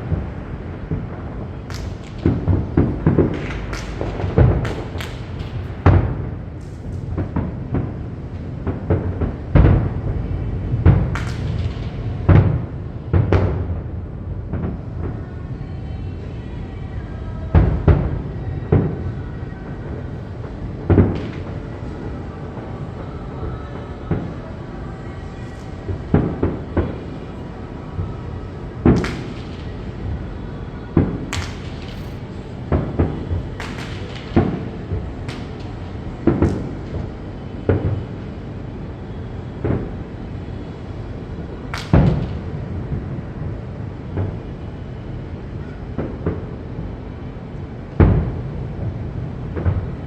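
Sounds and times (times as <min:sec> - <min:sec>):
fireworks bursting with echo: 0:00.0 - 0:50.0
steady background noise: 0:00.0 - 0:50.0.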